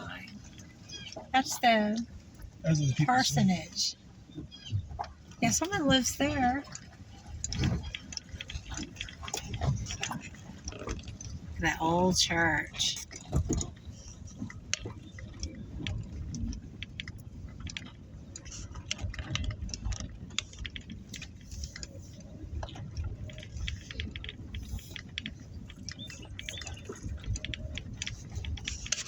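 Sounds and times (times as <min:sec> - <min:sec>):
car driving rumble: 0:00.0 - 0:29.0
small irregular clicks and crackles: 0:00.0 - 0:29.0.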